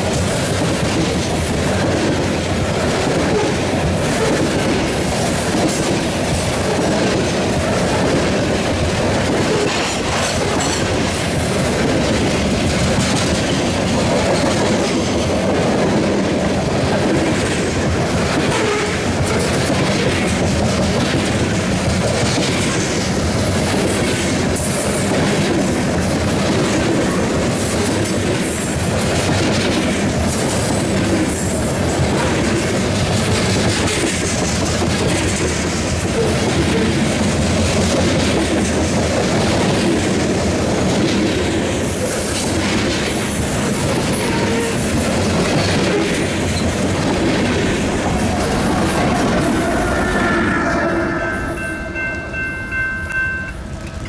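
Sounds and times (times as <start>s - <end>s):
train wheels clacking over rail joints: 0.0s - 50.2s.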